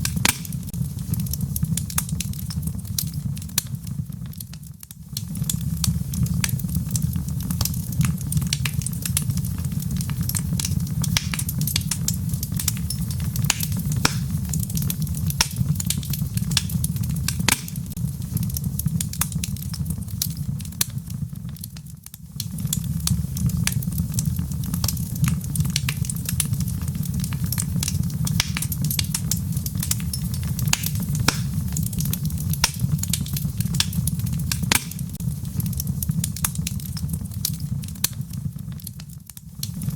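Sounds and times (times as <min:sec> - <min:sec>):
rain patter: 0:00.0 - 0:39.9
wood fire crackling and popping: 0:00.0 - 0:39.9.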